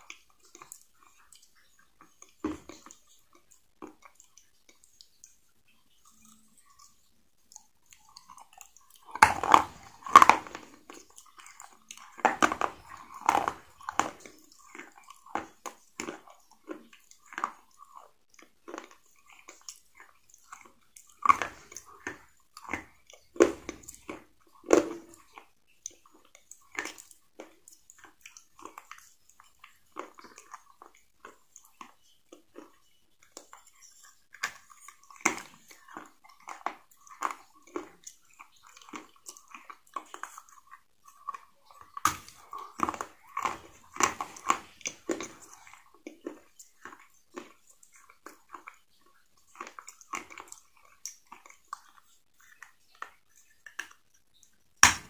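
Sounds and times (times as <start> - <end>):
person biting and chewing crunchy food: 6.0 - 55.0.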